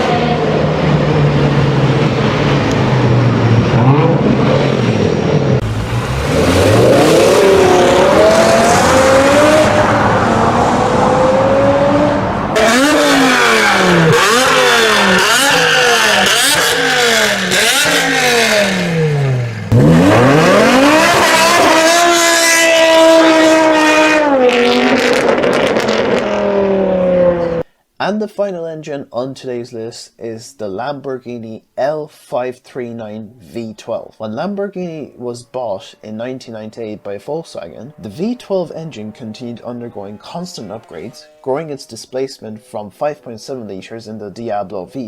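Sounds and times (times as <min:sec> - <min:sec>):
car engine revving: 0:00.0 - 0:27.6, 0:35.1 - 0:44.8.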